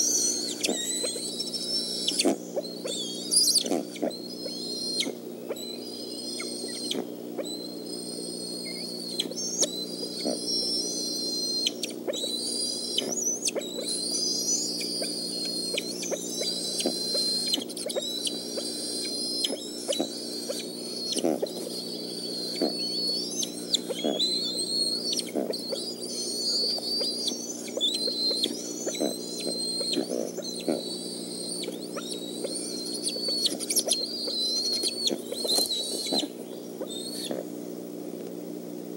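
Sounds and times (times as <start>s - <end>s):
eaglet begging calls: 0.0s - 37.4s
steady low hum: 0.0s - 38.9s.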